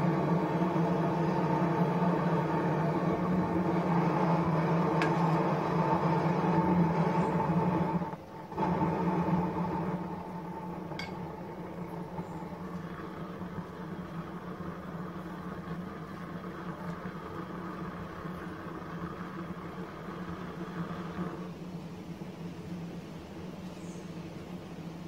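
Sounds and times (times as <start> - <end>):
gas burner roaring: 0.0 - 25.0.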